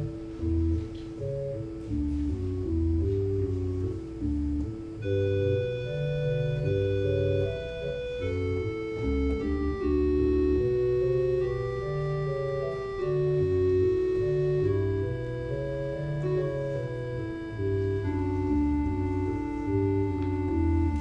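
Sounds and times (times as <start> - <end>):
organ playing sustained chords: 0.0 - 21.0.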